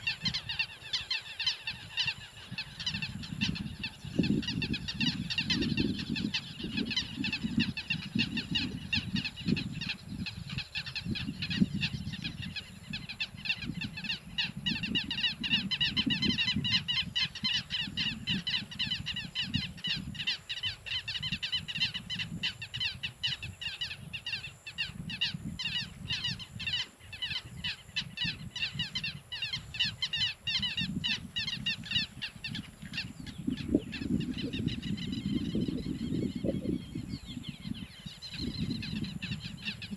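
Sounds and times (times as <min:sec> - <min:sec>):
chorus of birds calling: 0:00.0 - 0:39.9.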